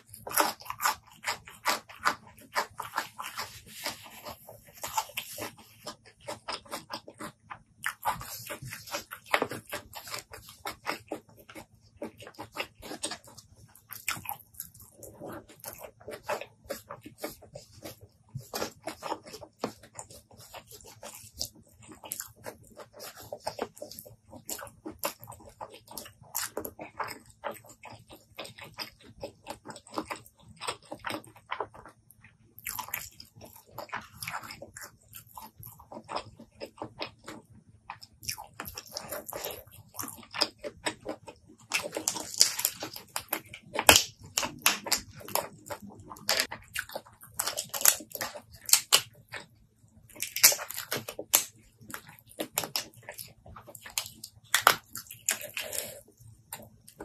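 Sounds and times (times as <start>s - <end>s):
chewing with wet mouth smacks: 0.0s - 57.0s
shellfish squelching and cracking: 0.0s - 57.0s.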